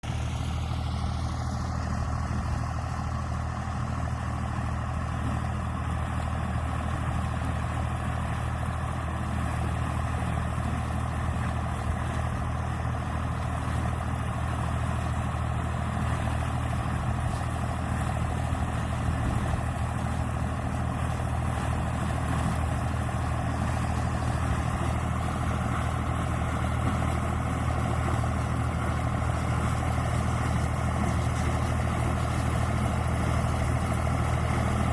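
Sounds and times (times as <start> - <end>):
corn picker mechanical noise: 0.0 - 34.9
tractor diesel engine droning: 0.0 - 34.9.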